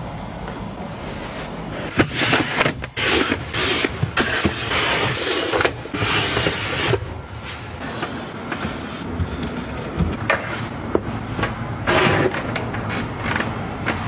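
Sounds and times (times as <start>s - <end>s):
objects rustling: 0.8s - 14.0s.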